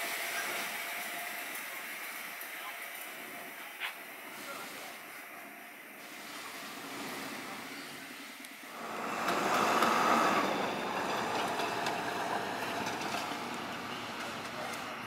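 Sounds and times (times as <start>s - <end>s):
train running past: 0.0s - 15.0s.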